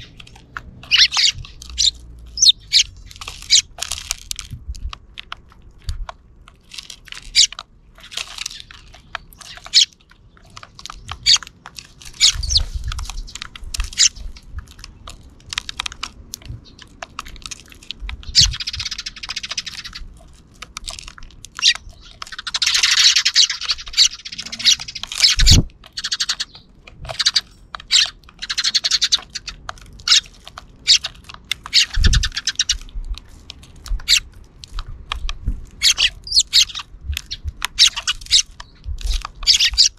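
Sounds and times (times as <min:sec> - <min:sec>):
sparrows chirping: 0:00.0 - 0:04.5, 0:06.7 - 0:39.9.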